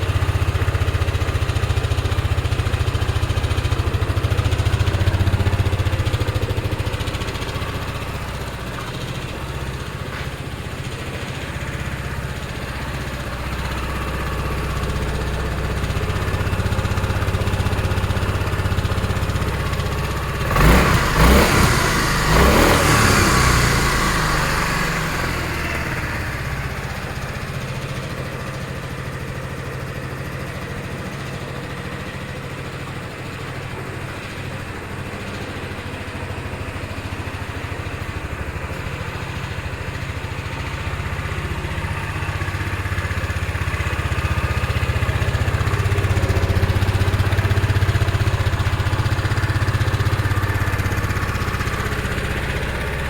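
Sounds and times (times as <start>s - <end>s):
scooter engine revving and idling: 0.0s - 53.0s.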